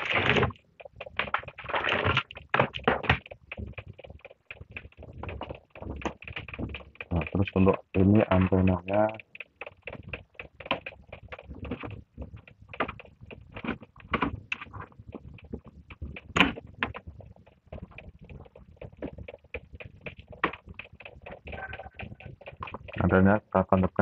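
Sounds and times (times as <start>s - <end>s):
cable and plastic parts rustling: 0.0s - 23.2s.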